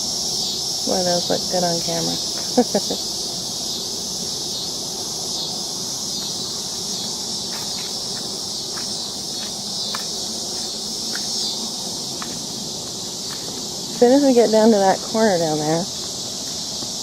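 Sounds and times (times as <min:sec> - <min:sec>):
shrill insect chorus: 0:00.0 - 0:17.0.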